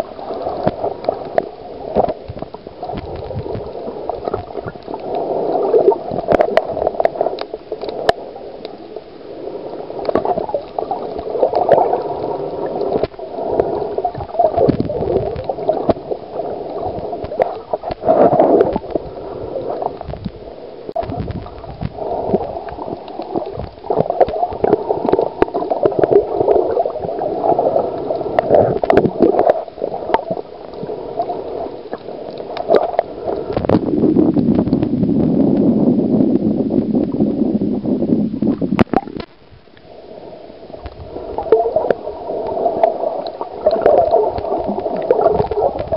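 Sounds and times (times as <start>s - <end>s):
water gurgling and sloshing: 0.0s - 45.9s.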